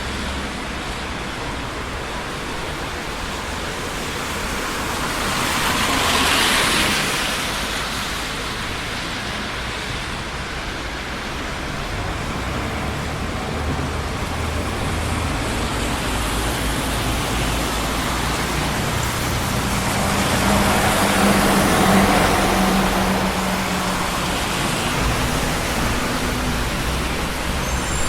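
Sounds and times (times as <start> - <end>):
cars passing on a busy street: 0.0 - 28.0
vehicle engine humming: 0.0 - 28.0.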